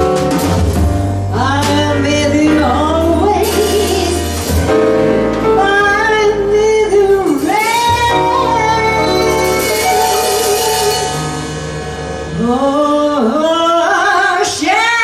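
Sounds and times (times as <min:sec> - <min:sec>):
jazz combo playing a ballad: 0:00.0 - 0:15.0.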